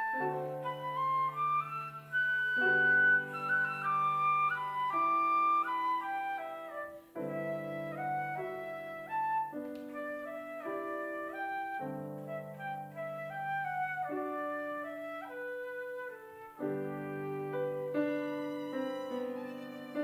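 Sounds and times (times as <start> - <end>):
flute melody: 0.0 - 20.0
piano chords: 0.0 - 20.0
violin: 0.0 - 20.0.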